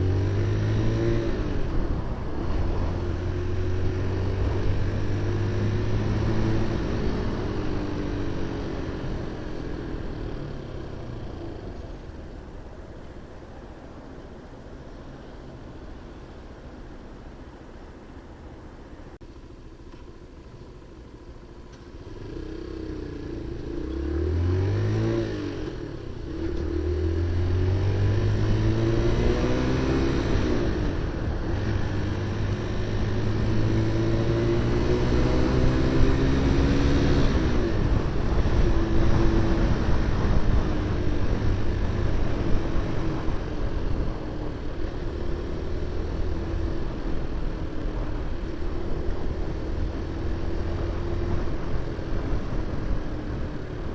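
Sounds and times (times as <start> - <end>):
motorcycle engine accelerating: 0.0 - 12.1, 20.8 - 53.9.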